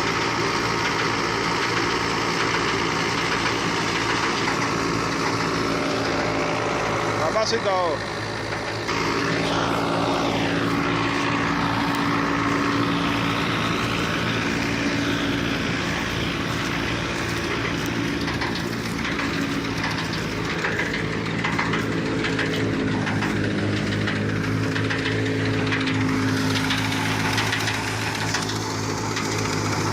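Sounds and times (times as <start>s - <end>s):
threshing drum rushing and rattling: 0.0s - 29.9s
threshing machine engine drone: 0.0s - 29.9s
falling whine: 4.5s - 29.9s.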